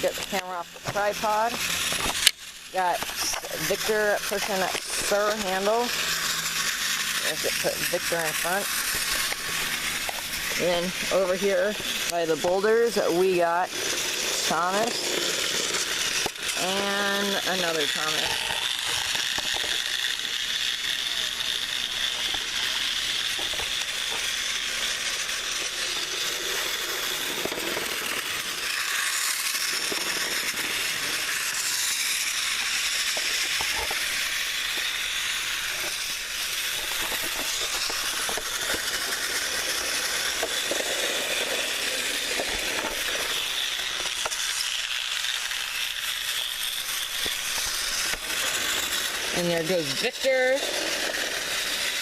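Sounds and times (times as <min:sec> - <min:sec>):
toy train motors whirring: 0:00.0 - 0:52.0.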